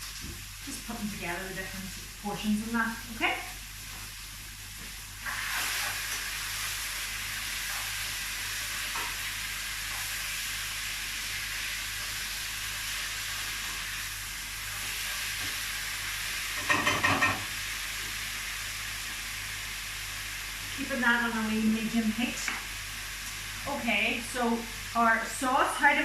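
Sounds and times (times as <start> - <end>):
chicken and onions sizzling in a pan: 0.0 - 26.0.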